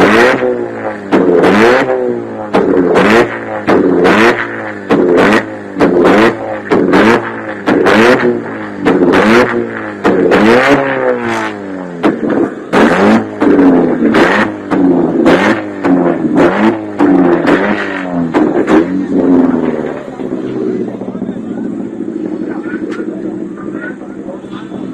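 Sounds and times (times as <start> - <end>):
car engine revving: 0.0 - 24.9
loud exhaust bangs: 0.0 - 24.9.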